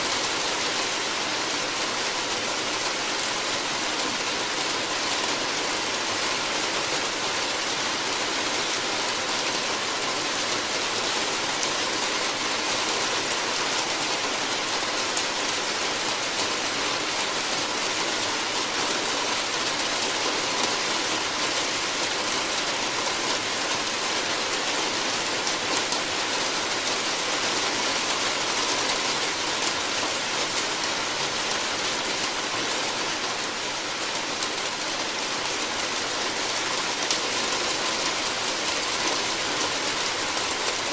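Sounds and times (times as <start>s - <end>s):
rain falling on a roof: 0.0s - 40.9s.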